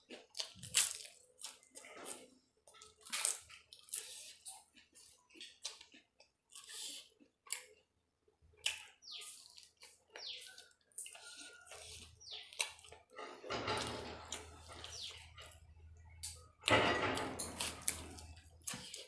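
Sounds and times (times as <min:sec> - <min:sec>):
person chewing food: 0:00.0 - 0:16.8, 0:17.4 - 0:19.0.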